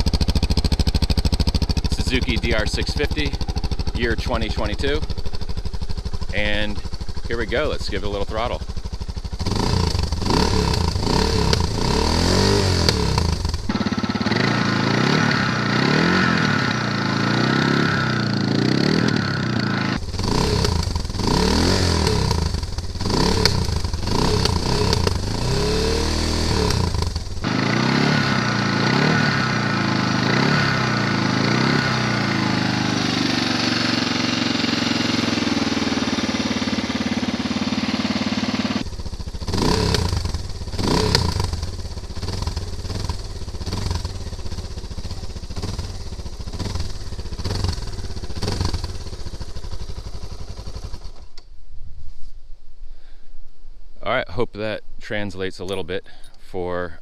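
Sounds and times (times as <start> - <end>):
motorcycle engine revving: 0.0 - 51.5.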